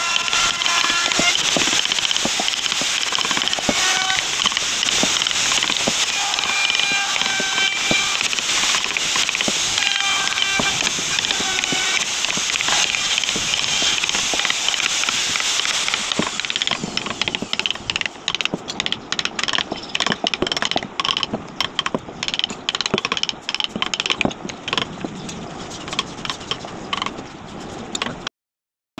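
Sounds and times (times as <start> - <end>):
dense steady hiss: 0.0 - 25.9.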